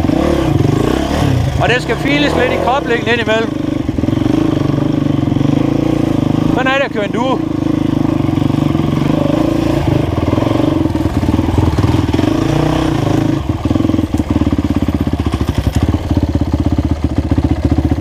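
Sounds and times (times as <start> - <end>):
dirt bike engine chugging: 0.0 - 18.0.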